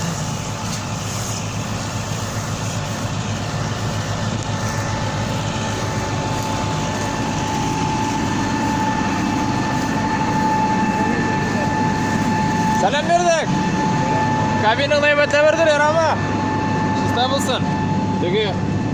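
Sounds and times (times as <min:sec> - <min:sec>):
combine harvester drone: 0:00.0 - 0:18.9
high whine: 0:00.0 - 0:18.9.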